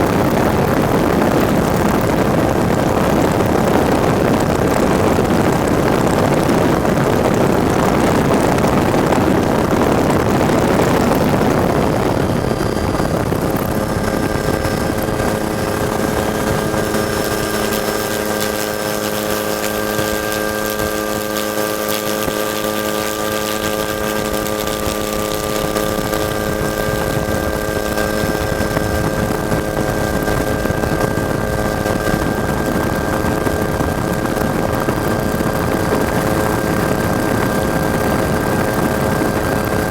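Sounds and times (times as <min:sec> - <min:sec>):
helicopter rotor rushing: 0:00.0 - 0:39.9
steady whine of tones: 0:00.0 - 0:39.9.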